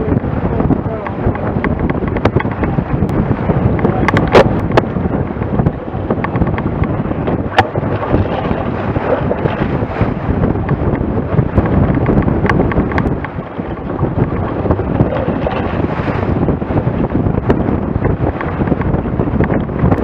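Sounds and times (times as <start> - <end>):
water rushing along a hull: 0.0 - 20.0
wind buffeting microphone: 0.0 - 20.0.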